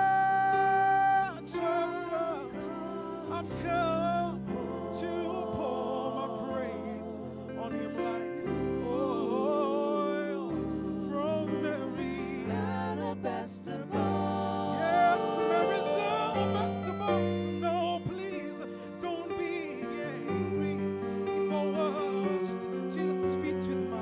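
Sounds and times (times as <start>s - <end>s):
vocal group singing harmonies: 0.0s - 24.0s.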